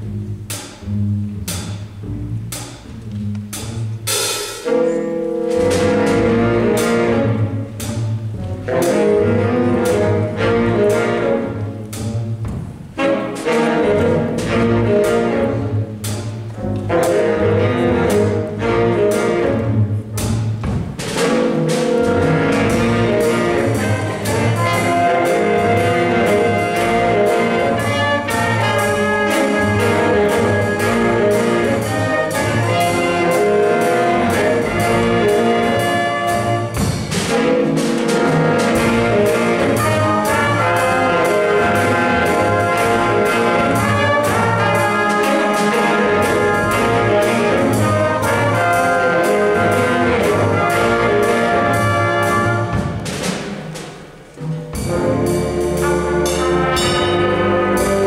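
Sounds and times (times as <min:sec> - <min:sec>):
drum strokes: 0:00.0 - 0:58.0
jazz big band playing: 0:00.0 - 0:58.0.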